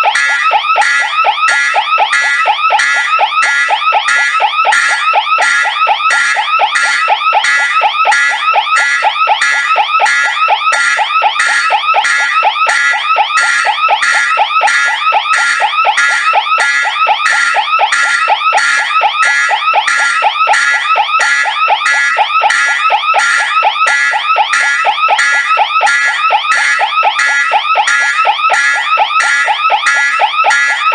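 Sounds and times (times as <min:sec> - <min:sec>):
fire alarm rapid pulsing: 0:00.0 - 0:30.9.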